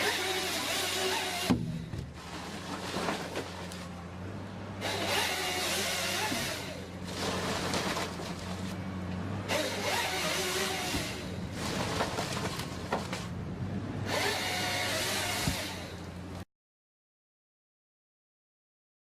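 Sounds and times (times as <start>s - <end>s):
engine-driven machine running: 0.0s - 16.4s.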